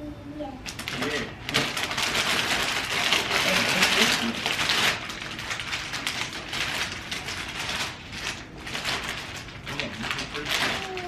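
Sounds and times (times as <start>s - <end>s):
wrapping paper crinkling: 0.6s - 11.0s.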